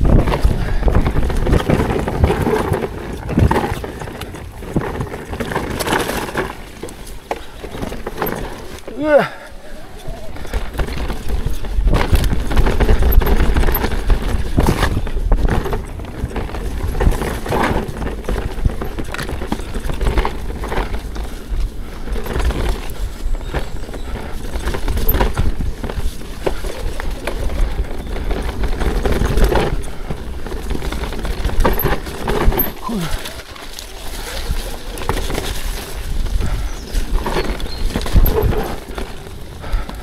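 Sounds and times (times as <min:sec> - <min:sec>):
bike tyres knocking over rocks: 0:00.0 - 0:09.4, 0:10.2 - 0:40.0
bike clattering: 0:00.0 - 0:40.0
low rumble of ground and wind: 0:00.0 - 0:40.0.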